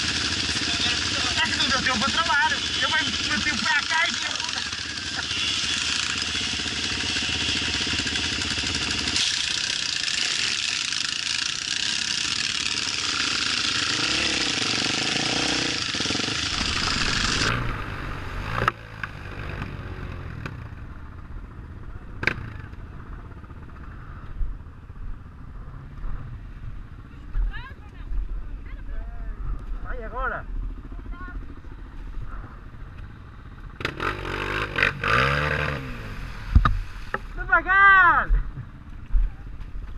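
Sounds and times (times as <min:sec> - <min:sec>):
motorcycle engine running hard: 0:00.0 - 0:37.3.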